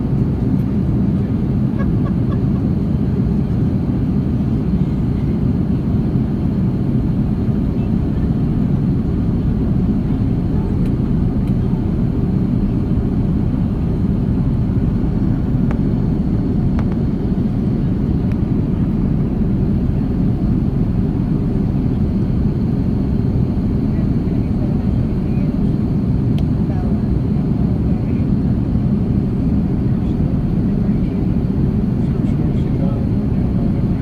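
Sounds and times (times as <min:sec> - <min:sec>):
aircraft cabin engine rumble: 0:00.0 - 0:34.0.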